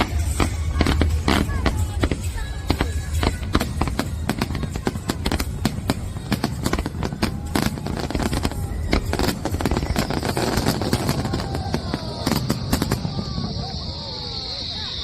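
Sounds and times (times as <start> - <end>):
fireworks pops and crackles: 0.0 - 14.4.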